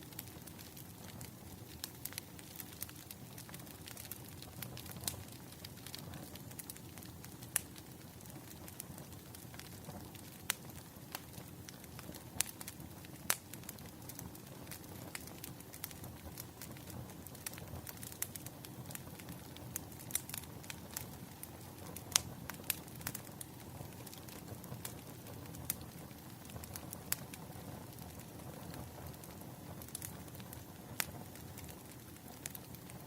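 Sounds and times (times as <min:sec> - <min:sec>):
firewood crackling and popping: 0:00.0 - 0:33.0
low rumble of flame: 0:00.0 - 0:33.0.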